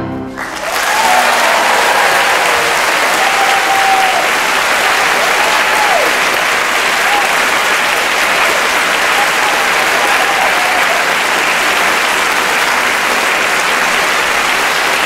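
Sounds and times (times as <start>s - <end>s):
audience applauding: 0.3s - 15.0s.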